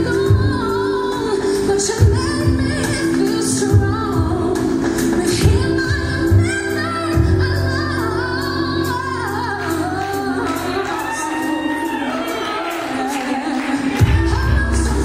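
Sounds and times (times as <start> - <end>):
musical accompaniment with deep bass: 0.0 - 15.0
woman singing gospel song: 0.0 - 15.0.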